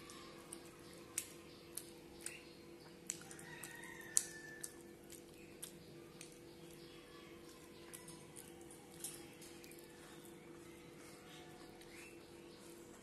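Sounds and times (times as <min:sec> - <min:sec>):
person chewing with wet smacks: 0:00.0 - 0:13.0.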